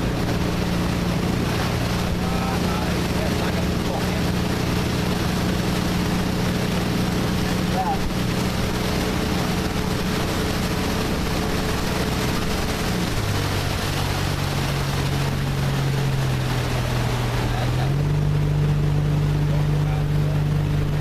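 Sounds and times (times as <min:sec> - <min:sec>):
speedboat engine running: 0:00.0 - 0:21.0
water rushing: 0:00.0 - 0:21.0
wind: 0:00.0 - 0:21.0.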